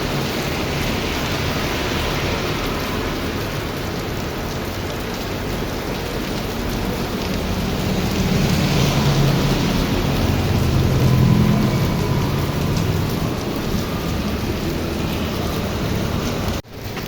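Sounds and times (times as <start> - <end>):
heavy rain falling: 0.0 - 17.0
thunder rumbling: 0.0 - 17.0.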